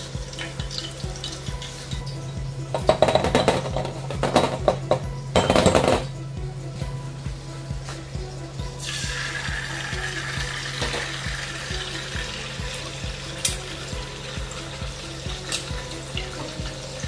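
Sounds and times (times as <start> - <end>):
food sizzling in frying pans: 0.0 - 5.4, 6.0 - 17.0
background music with steady beat: 0.0 - 17.0.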